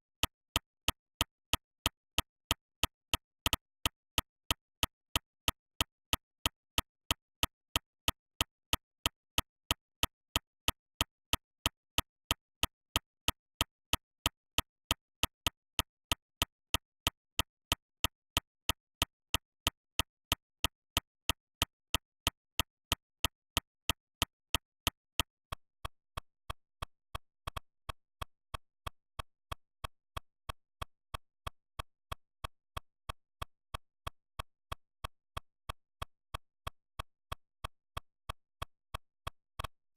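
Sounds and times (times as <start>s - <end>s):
sharp evenly spaced ticks: 0.0s - 39.9s.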